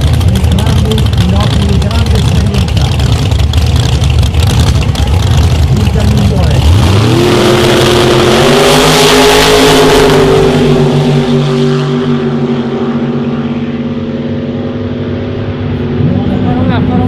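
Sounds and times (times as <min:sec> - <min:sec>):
drag racing car engine: 0:00.0 - 0:17.0.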